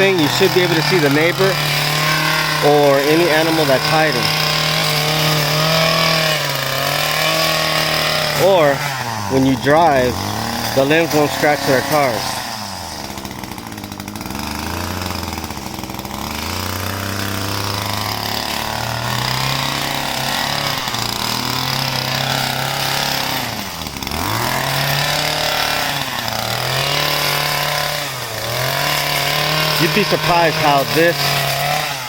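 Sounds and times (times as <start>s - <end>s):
small gas engine revving: 0.0s - 32.0s.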